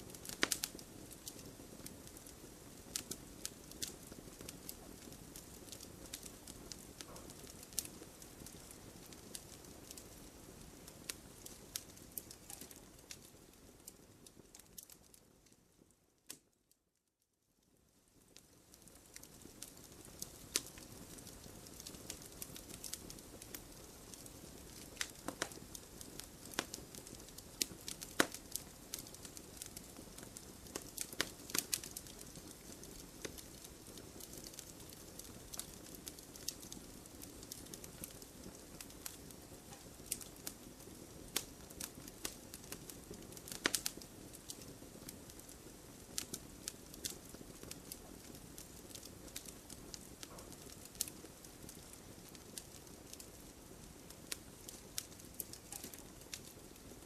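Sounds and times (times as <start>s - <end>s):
campfire crackling: 0.0s - 16.5s, 17.7s - 57.0s.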